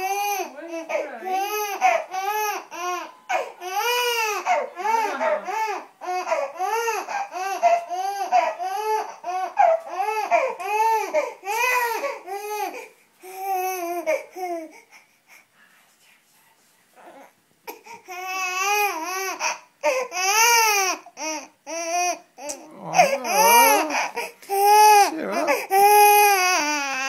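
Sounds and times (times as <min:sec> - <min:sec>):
baby crying: 0:00.0 - 0:14.9, 0:17.0 - 0:27.0.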